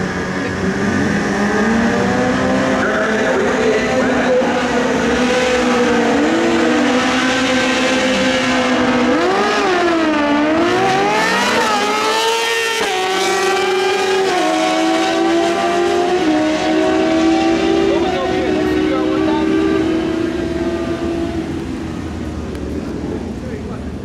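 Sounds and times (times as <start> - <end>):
motorcycle engines revving and accelerating: 0.0 - 24.0.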